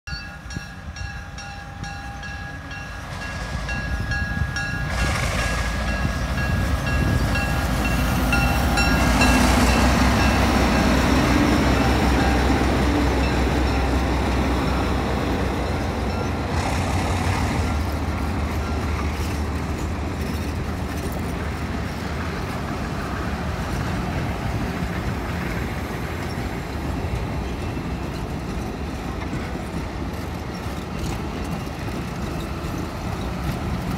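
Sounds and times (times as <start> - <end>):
diesel locomotive passing: 0.1 - 33.9
train wheels rumbling on rail: 0.1 - 33.9.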